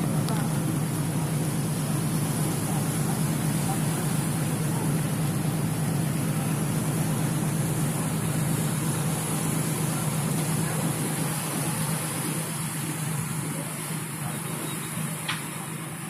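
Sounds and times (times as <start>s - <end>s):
ship diesel engines droning: 0.0s - 16.0s.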